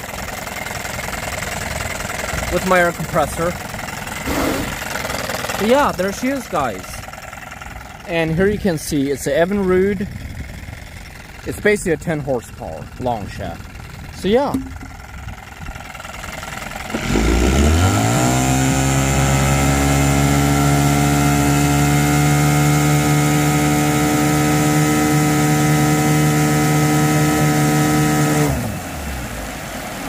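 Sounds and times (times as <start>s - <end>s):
outboard motor revving: 0.0s - 30.0s.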